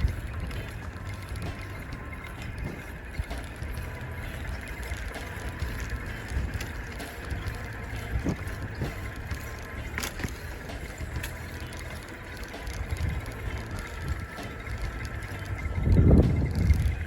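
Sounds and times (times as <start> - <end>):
bicycle freewheel ticking: 0.0 - 17.0
knocks and rattles over bumps: 0.0 - 17.0
tyres rumbling on dirt: 0.0 - 17.0
wind on microphone: 0.0 - 17.0.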